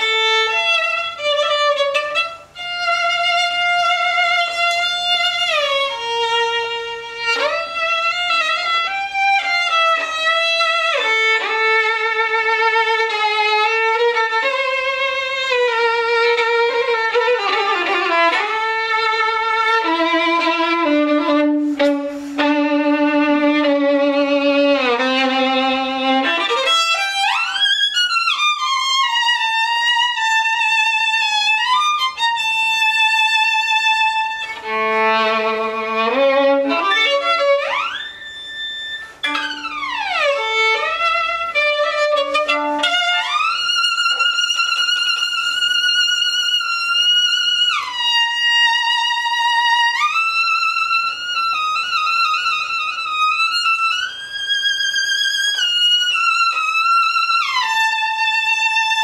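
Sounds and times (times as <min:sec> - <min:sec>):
violin playing: 0:00.0 - 0:59.0.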